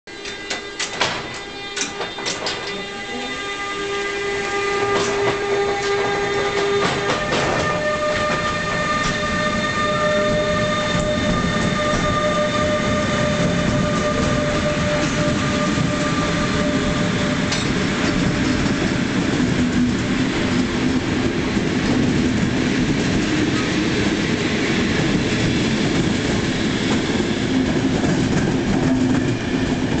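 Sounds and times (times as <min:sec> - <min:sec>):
electric locomotive whining: 0:00.1 - 0:30.0
train wheels rumbling on rails: 0:00.1 - 0:30.0.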